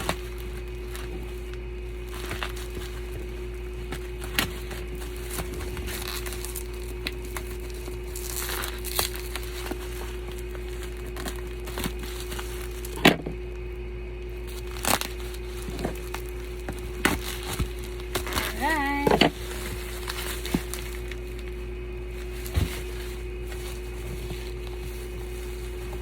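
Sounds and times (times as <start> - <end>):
plastic crinkling and tearing: 0.0 - 13.1, 14.4 - 26.0
steady hum: 0.0 - 26.0.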